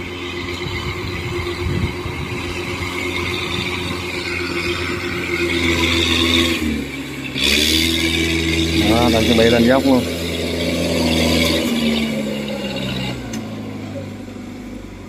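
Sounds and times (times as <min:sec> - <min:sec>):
tracked carrier engine running: 0:00.0 - 0:15.0.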